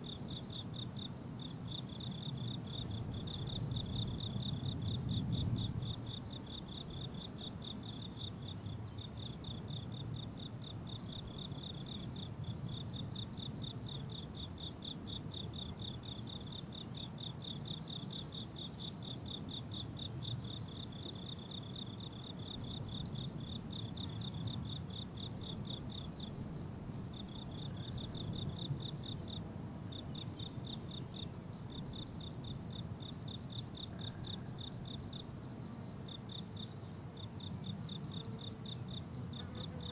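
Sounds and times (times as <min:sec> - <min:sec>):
crickets chirping: 0:00.0 - 0:39.9
lower-pitched cricket chirping: 0:00.0 - 0:39.9.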